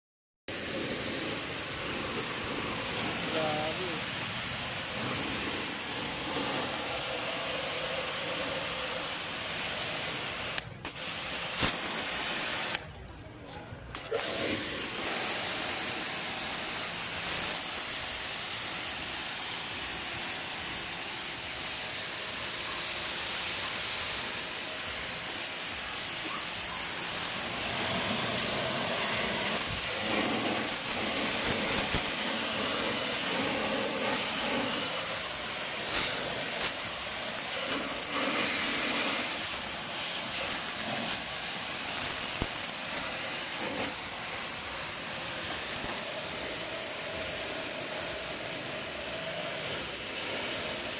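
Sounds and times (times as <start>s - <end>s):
water spray jet hissing: 0.5s - 12.8s, 14.0s - 50.9s.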